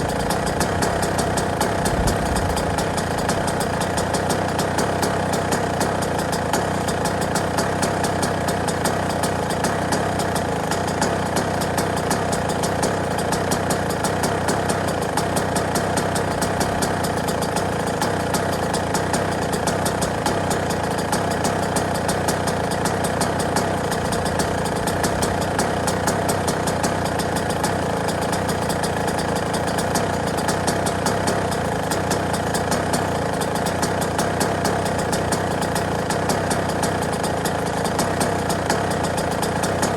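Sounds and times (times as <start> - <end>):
dirt bike engine idling: 0.0 - 39.9.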